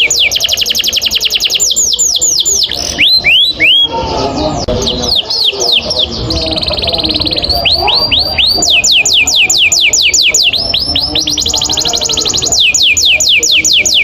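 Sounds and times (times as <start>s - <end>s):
canary singing: 0.0s - 14.0s.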